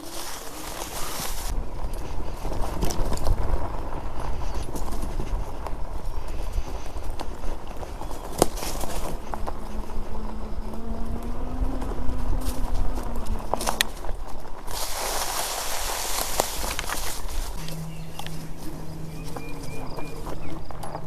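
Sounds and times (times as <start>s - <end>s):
tires rumbling on rough ground: 0.0s - 21.0s.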